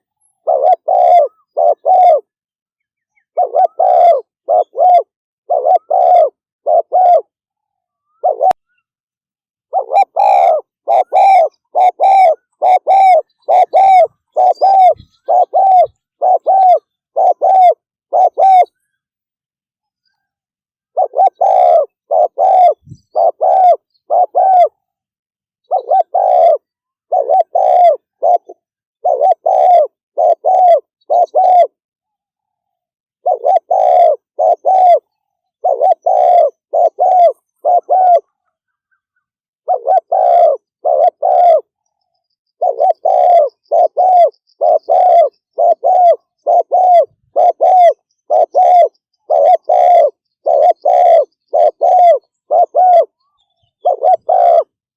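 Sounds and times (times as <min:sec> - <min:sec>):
dove cooing: 0:00.0 - 0:02.3, 0:03.1 - 0:08.8, 0:09.7 - 0:19.0, 0:20.9 - 0:24.9, 0:25.6 - 0:31.8, 0:33.2 - 0:54.8.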